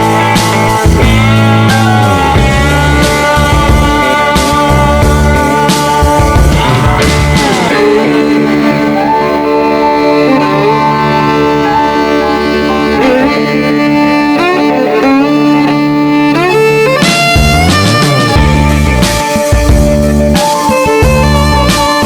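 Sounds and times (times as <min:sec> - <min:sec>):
fiddle playing sliding notes: 0:00.0 - 0:22.0
steady musical accompaniment: 0:00.0 - 0:22.0.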